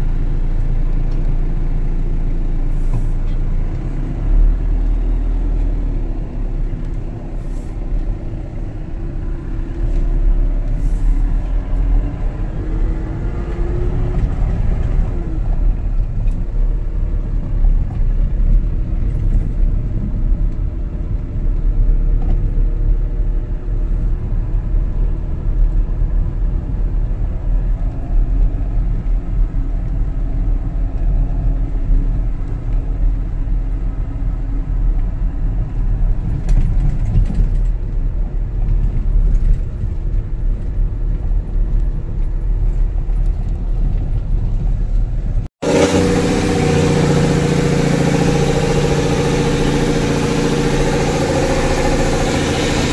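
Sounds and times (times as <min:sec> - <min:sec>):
vehicle engine and road rumble: 0:00.0 - 0:52.9.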